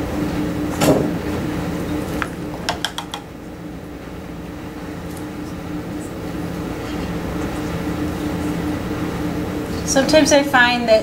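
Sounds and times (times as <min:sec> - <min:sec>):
room hum with low tones: 0:00.0 - 0:11.0.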